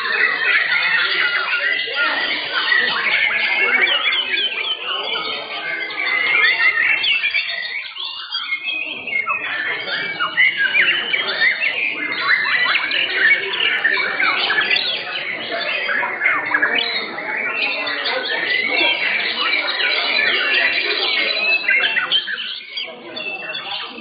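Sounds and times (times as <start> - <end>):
songbirds whistling: 0.0 - 24.0.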